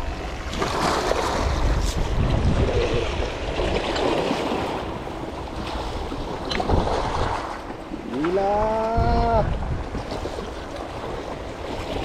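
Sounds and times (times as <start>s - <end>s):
wind on microphone: 0.0s - 5.0s, 5.6s - 12.0s
waves washing: 0.0s - 12.0s.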